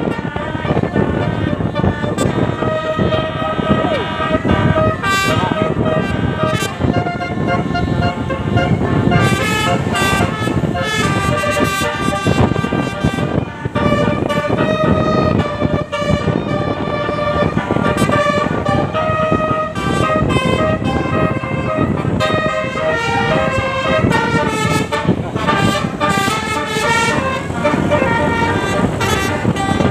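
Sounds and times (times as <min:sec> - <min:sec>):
bus horn playing a tune: 0:00.0 - 0:29.9.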